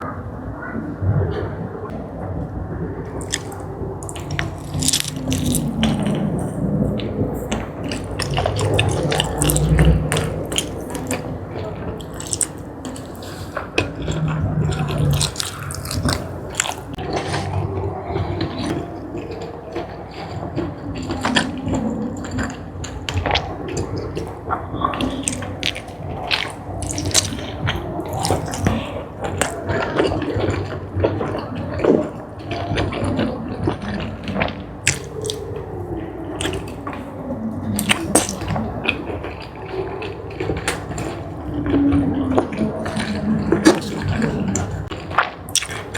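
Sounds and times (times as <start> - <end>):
mouth clicks and smacks: 3.0 - 45.9
wet chewing: 3.0 - 45.9.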